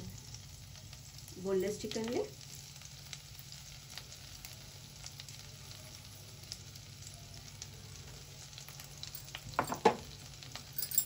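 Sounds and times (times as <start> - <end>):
garlic sizzling in a frying pan: 0.0 - 11.0.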